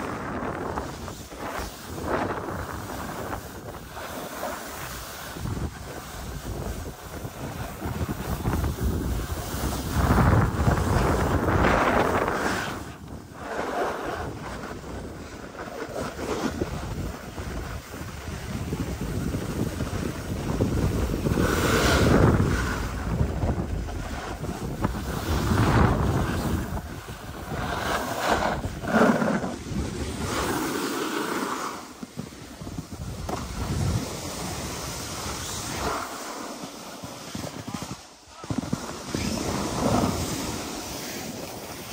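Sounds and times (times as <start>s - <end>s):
wind buffeting microphone: 0.0s - 4.1s, 4.7s - 30.7s, 32.2s - 36.1s
skis scraping over snow: 0.0s - 41.9s.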